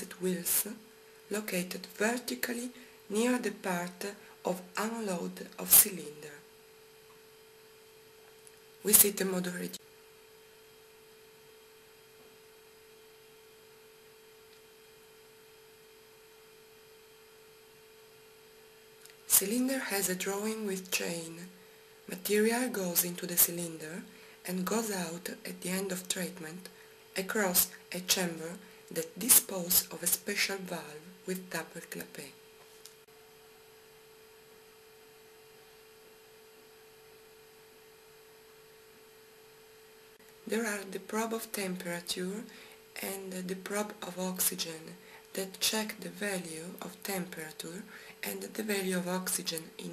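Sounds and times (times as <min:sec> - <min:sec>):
faint steady hum: 0:00.0 - 0:49.9
low hiss: 0:00.0 - 0:49.9.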